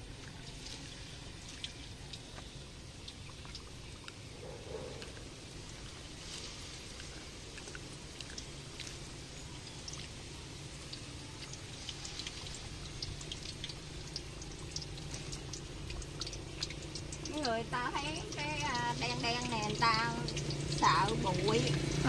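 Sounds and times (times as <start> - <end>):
oil popping and spitting: 0.0 - 4.3, 4.9 - 22.0
food deep-frying in hot oil: 0.0 - 22.0.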